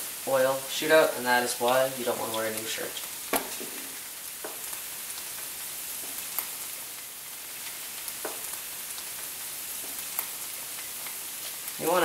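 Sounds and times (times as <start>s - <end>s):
potatoes sizzling in oil: 0.0s - 12.0s.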